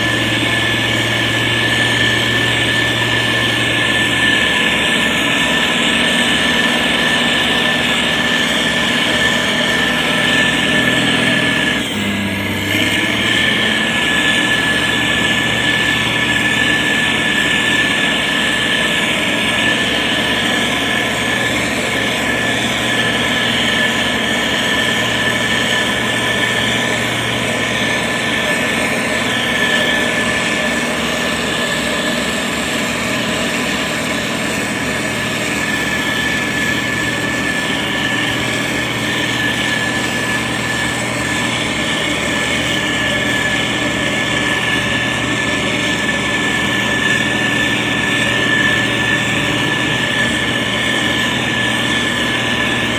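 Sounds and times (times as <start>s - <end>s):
diesel engine running: 0.0s - 52.9s
high-pitched whine: 0.0s - 52.9s.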